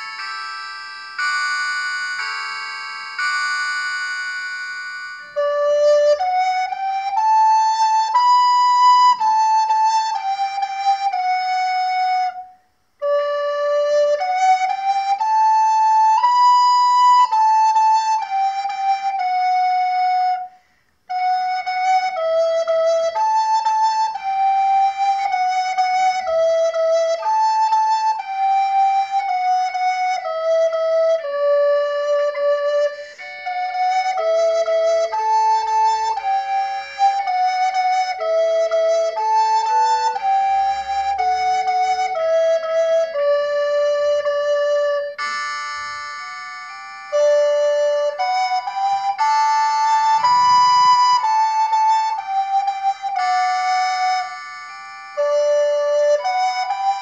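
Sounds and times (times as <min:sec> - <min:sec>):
recorder playing slow melody: 0:00.0 - 0:57.0.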